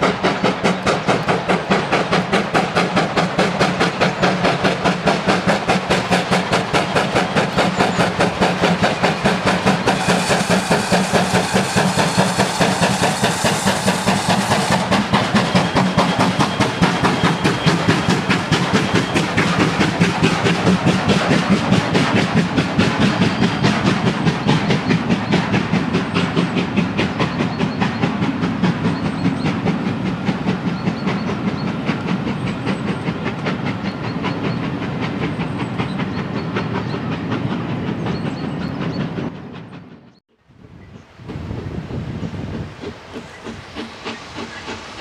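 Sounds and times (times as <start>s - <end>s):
rhythmic wheel clatter: 0.0s - 40.0s
steam train passing: 0.0s - 45.0s.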